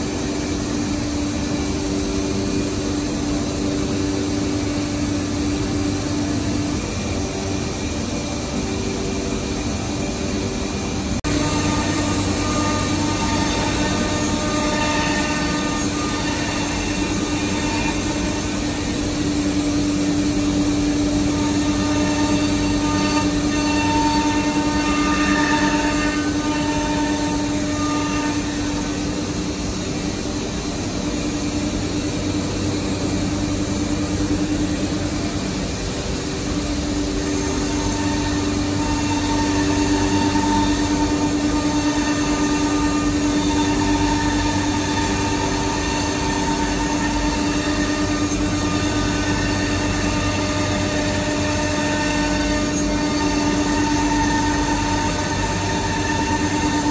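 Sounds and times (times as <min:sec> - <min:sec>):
router machining a board: 0:00.0 - 0:31.6, 0:35.0 - 0:56.9.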